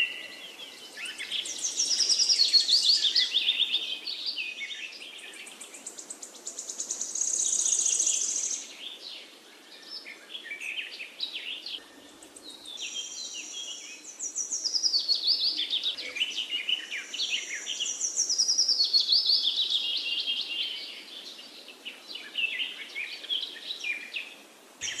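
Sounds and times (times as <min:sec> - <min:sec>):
songbirds singing and chirping: 0:00.0 - 0:25.0.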